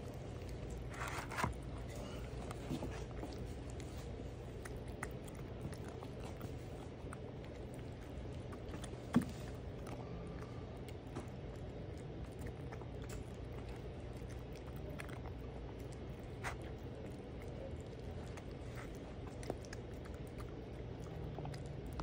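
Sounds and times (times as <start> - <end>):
kitten chewing wet food: 0.0 - 22.0.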